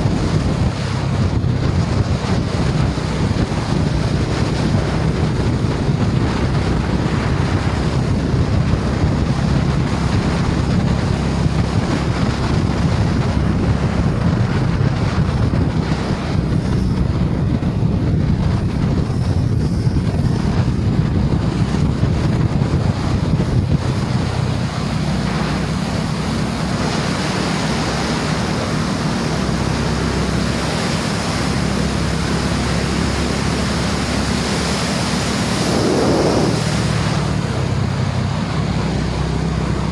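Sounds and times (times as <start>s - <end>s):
wind rushing over microphone: 0.0s - 39.9s
motorcycle engine cruising: 4.7s - 39.9s.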